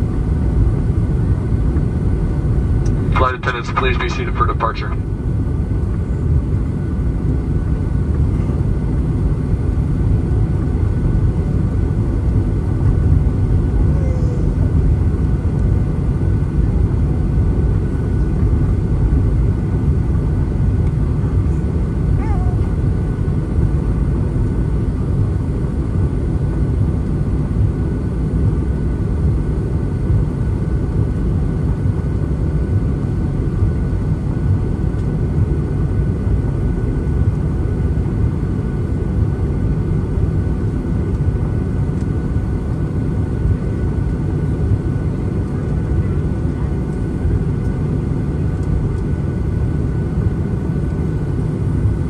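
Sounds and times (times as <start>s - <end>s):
airliner cabin low rumble: 0.0s - 52.0s.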